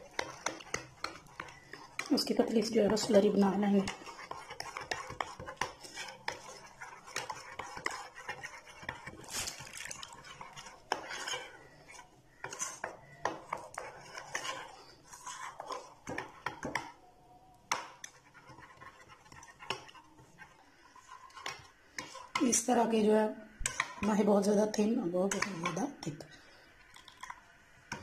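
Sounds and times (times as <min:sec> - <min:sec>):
metal spoon stirring in ceramic bowl: 0:00.0 - 0:17.0, 0:17.7 - 0:22.8, 0:23.6 - 0:28.0.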